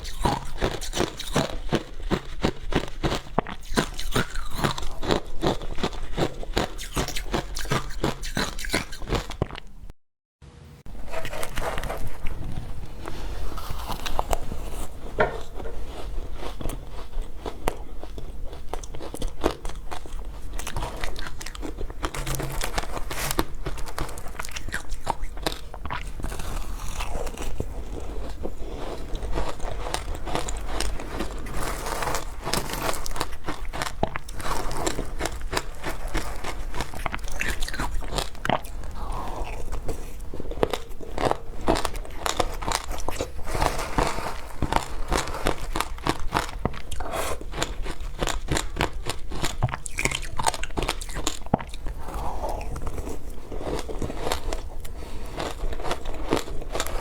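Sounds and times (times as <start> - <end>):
crunching and chewing ice: 0.0 - 9.9, 10.9 - 57.0.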